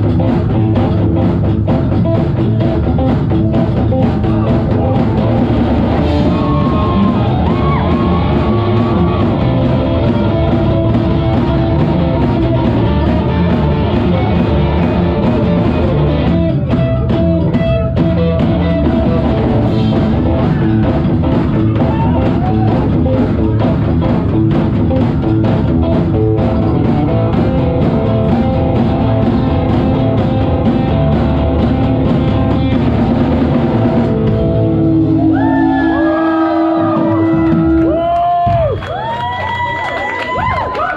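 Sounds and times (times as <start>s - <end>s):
upright double bass: 0.0s - 38.7s
drum kit: 0.0s - 40.9s
electric guitar: 0.0s - 40.9s.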